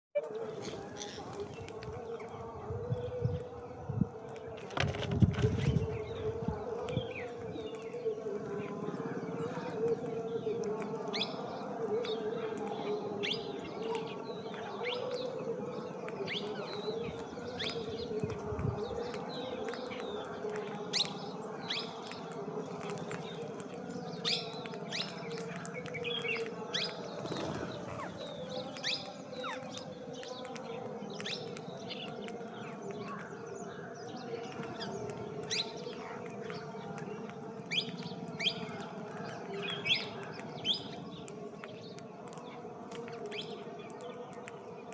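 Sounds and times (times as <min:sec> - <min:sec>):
birds chirping: 0:00.3 - 0:44.9.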